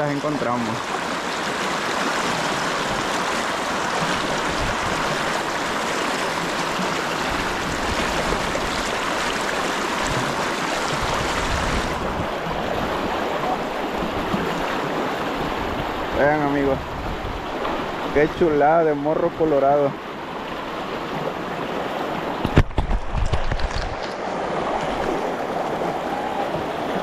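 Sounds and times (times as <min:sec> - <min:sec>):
river water rushing over riffle: 0:00.0 - 0:27.0.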